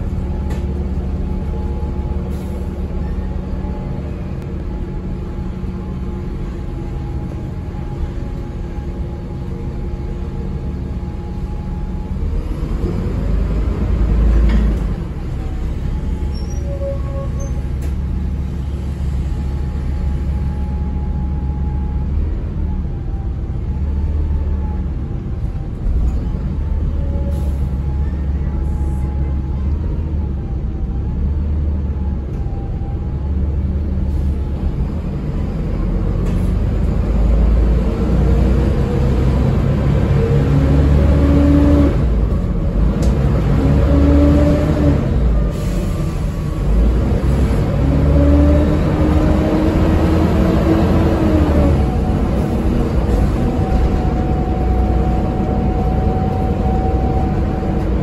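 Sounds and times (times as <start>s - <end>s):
bus diesel engine accelerating: 0.0s - 58.0s.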